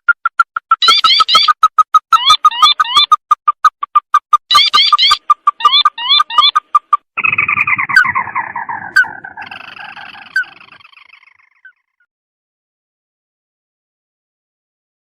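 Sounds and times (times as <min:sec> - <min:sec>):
bird calling with trill: 0:00.0 - 0:12.1.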